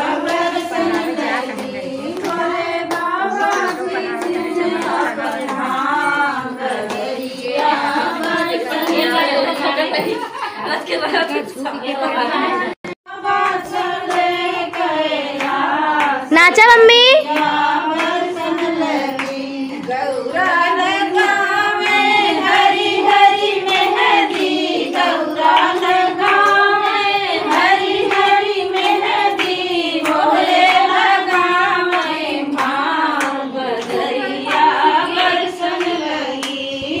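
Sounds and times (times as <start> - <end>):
hands clapping in rhythm: 0.0 - 9.2, 12.8 - 37.0
women singing folk song: 0.0 - 10.4, 12.4 - 37.0.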